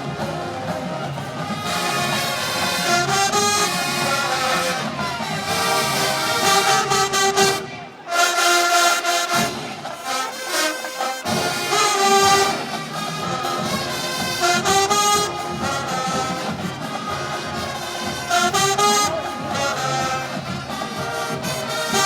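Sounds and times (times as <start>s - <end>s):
marching band brass and drums: 0.0s - 22.0s.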